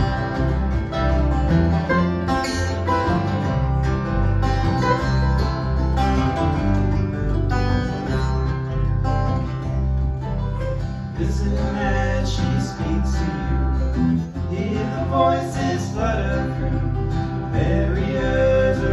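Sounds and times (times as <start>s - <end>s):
acoustic string band playing: 0.0s - 18.9s.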